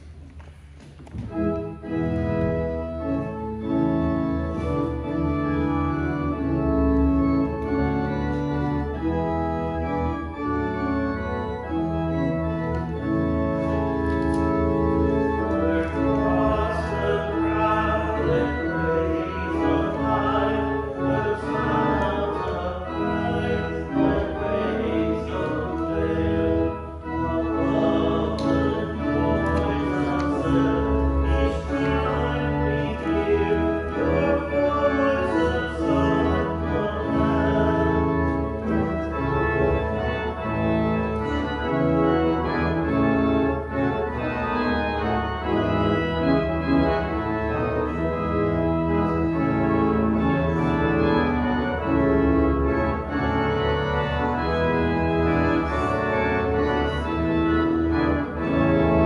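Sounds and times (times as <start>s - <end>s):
church organ playing a hymn: 0.0s - 59.0s
congregation singing: 1.2s - 59.0s.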